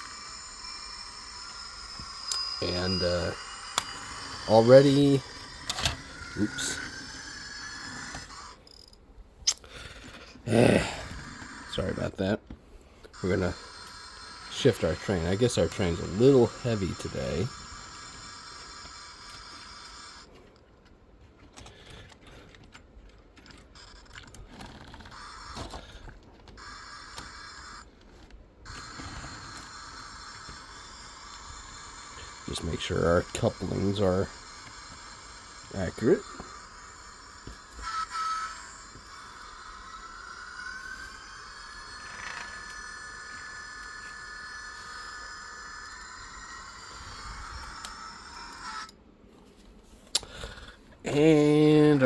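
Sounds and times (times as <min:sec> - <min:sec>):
model train clicks and scrapes: 0:00.0 - 0:09.0, 0:13.1 - 0:20.4, 0:21.5 - 0:49.0.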